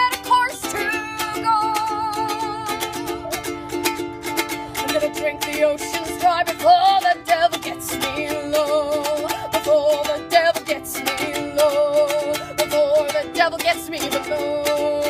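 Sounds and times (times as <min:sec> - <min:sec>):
person singing with vibrato: 0:00.0 - 0:15.0
strummed acoustic string instrument: 0:00.0 - 0:15.0.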